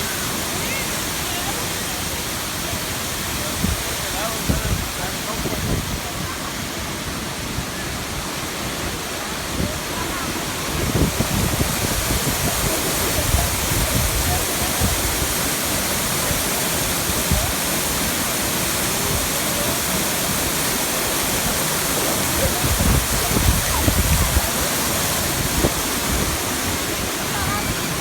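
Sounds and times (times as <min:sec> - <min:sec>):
waterfall rushing and splashing: 0:00.0 - 0:28.0.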